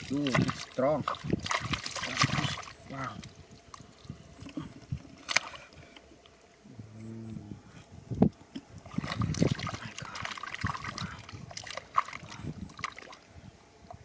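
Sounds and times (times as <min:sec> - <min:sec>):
water splashing and trickling: 0:00.0 - 0:06.4, 0:08.8 - 0:14.0.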